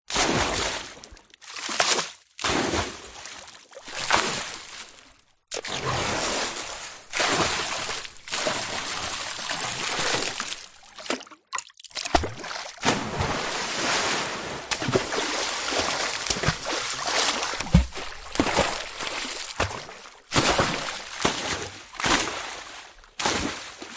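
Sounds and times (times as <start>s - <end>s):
sharp splash impacts: 0.1s - 23.9s
water sloshing and splashing: 0.1s - 23.9s.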